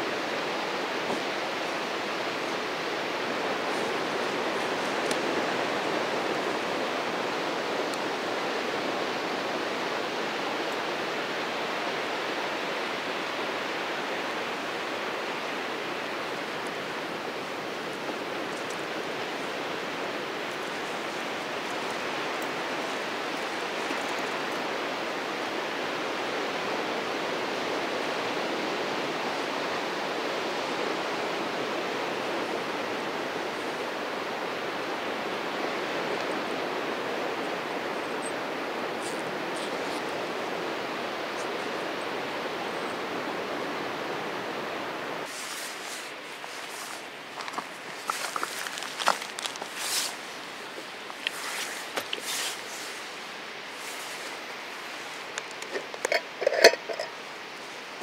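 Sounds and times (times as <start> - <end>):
surf breaking on a beach: 0.0 - 58.0.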